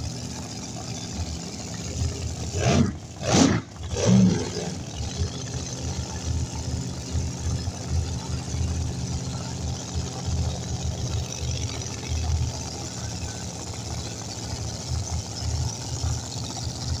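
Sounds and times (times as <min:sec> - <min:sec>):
race car engine idling and revving: 0:00.0 - 0:17.0.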